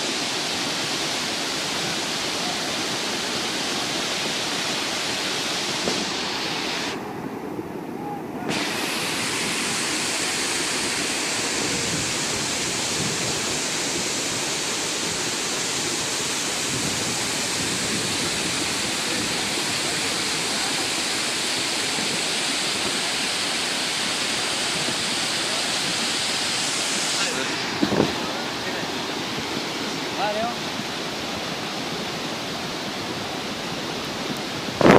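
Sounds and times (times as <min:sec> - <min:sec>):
flood water rushing: 0:00.0 - 0:34.9.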